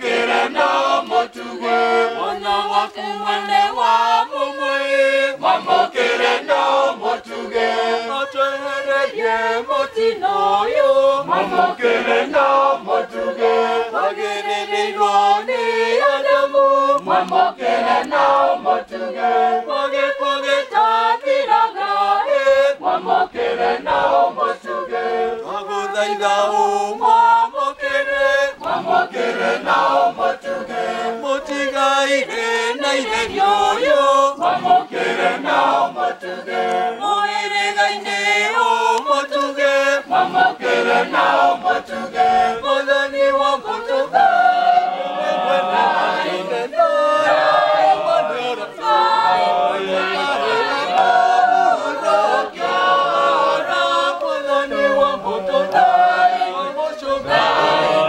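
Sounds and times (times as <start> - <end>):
group singing a hymn unaccompanied: 0.0 - 58.0.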